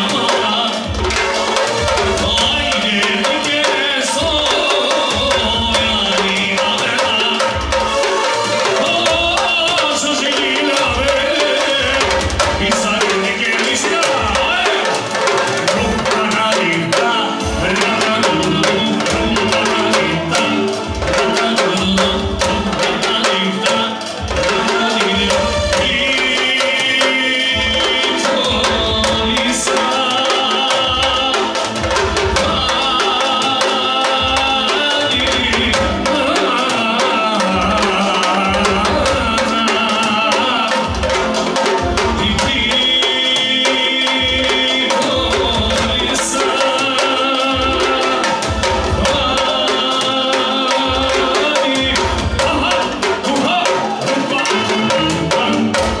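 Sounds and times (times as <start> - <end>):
drums beating: 0.0 - 56.0
live band music: 0.0 - 56.0.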